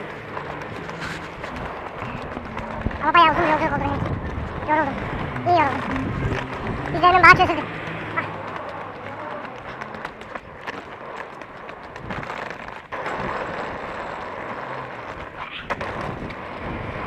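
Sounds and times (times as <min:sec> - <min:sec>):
footsteps on pavement: 0:00.0 - 0:17.0
street noise: 0:00.0 - 0:17.0.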